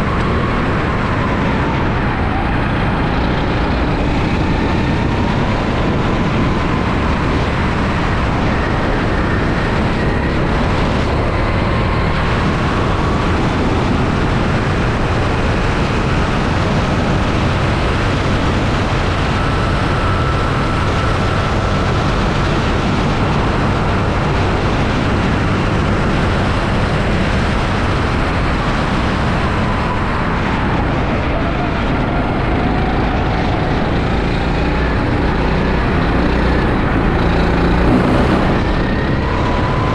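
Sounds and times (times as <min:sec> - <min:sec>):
go-kart engine running: 0:00.0 - 0:39.9
wind and road noise: 0:00.0 - 0:39.9.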